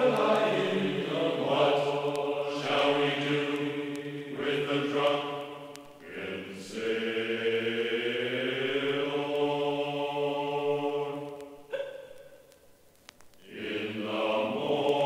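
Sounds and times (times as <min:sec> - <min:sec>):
chanting in long held notes: 0:00.0 - 0:12.1, 0:13.4 - 0:15.0.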